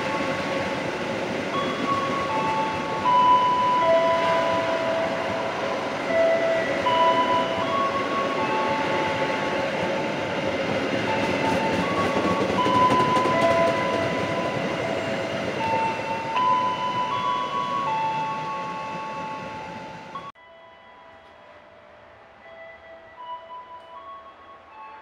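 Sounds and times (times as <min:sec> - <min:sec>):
passenger train carriages moving: 0:00.0 - 0:25.0
slow melody of held notes: 0:01.5 - 0:25.0.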